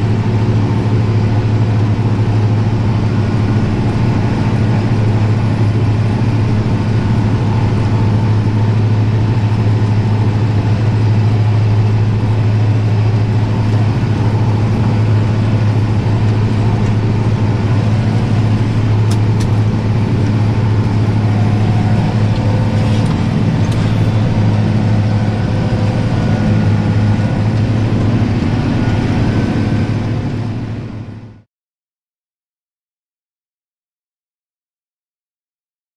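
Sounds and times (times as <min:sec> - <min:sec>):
tractor engine running: 0:00.0 - 0:31.4.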